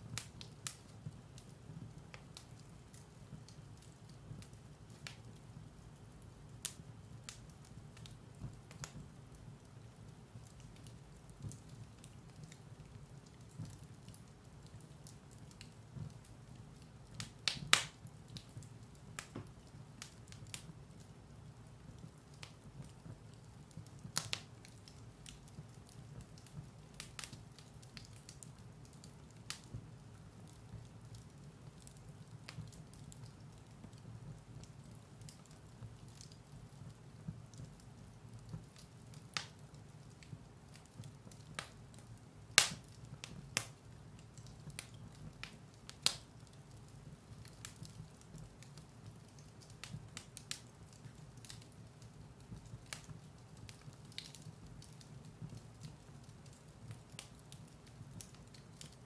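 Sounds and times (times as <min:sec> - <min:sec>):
firewood crackling and popping: 0:00.0 - 0:59.0
low rumble of fire: 0:00.0 - 0:59.0.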